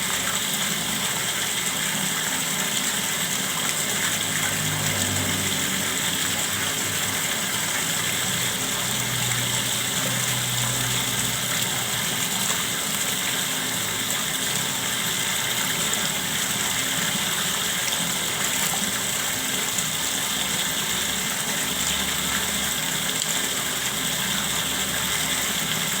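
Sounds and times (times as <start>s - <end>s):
water flowing and gushing: 0.0s - 26.0s.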